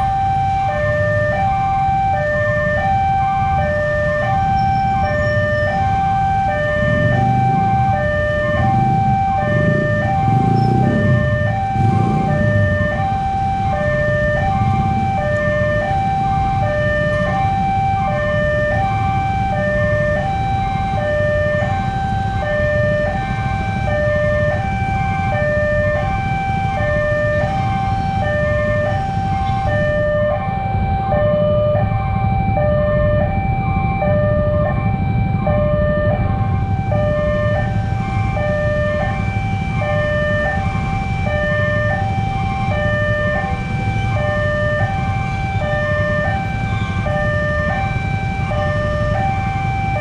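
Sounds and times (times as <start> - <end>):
two-tone electronic siren: 0.0 - 50.0.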